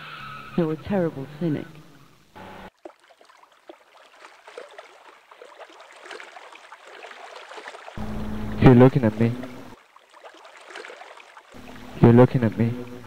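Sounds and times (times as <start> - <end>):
river water splashing and gurgling: 0.0 - 13.0.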